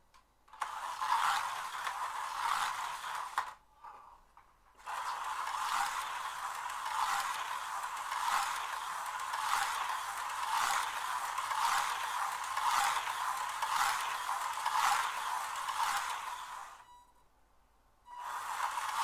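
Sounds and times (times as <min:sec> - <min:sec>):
slot car motor whirring: 0:00.5 - 0:04.2, 0:04.8 - 0:16.9, 0:18.1 - 0:19.0.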